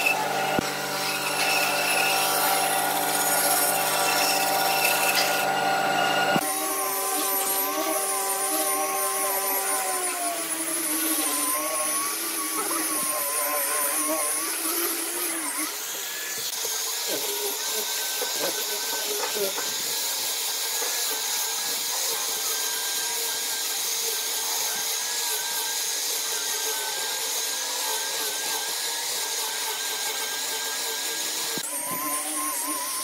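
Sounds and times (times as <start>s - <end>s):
angle grinder sanding whine: 0.0s - 33.0s
band saw cutting wood: 0.0s - 33.0s.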